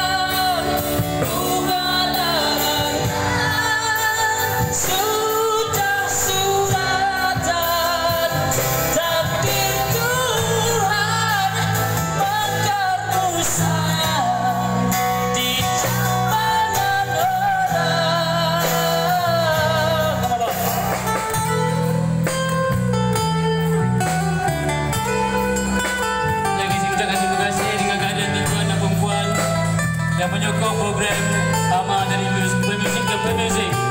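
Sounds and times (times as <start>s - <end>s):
male lead vocal: 0.0s - 22.8s, 23.6s - 33.9s
drums: 0.0s - 33.9s
electric bass guitar: 0.0s - 33.9s
guitar: 0.0s - 33.9s.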